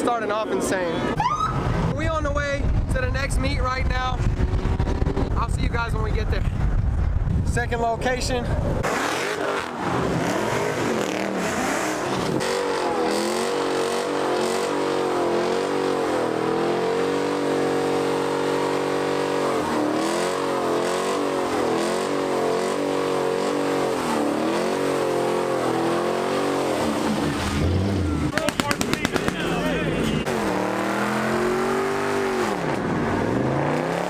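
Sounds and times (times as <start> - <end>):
car engine revving: 3.6 - 6.2, 8.7 - 34.0.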